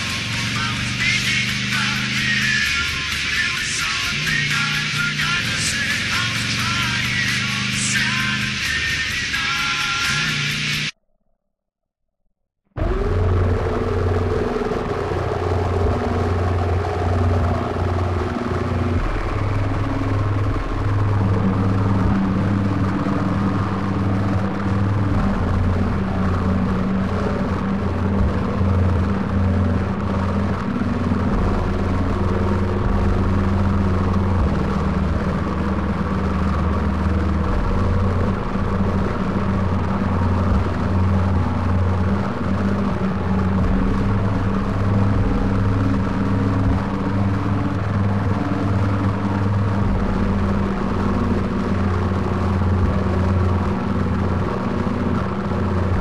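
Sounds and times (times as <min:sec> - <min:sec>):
higher bass tone: 0:00.0 - 0:11.0, 0:12.8 - 0:56.0
low rumbling drone: 0:00.0 - 0:11.0, 0:12.8 - 0:56.0.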